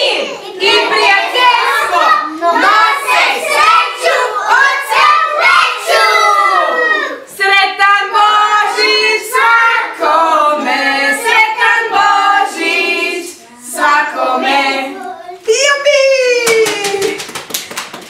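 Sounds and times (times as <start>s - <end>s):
children singing: 0.0s - 15.4s.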